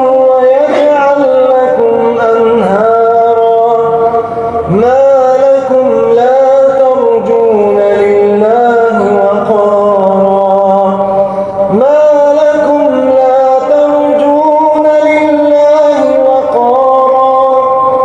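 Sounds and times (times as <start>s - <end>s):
man chanting recitation: 0.0s - 18.0s.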